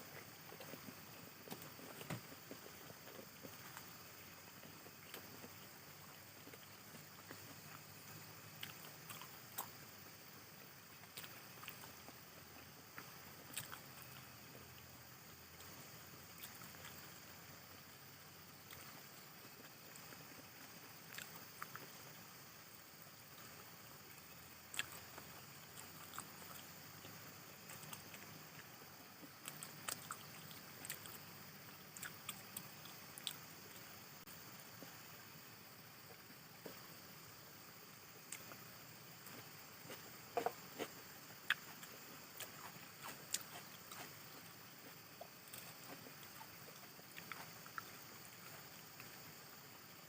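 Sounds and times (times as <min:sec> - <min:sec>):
quiet chewing and mouth smacks: 0:00.0 - 0:50.0
steady low hiss: 0:00.0 - 0:50.0.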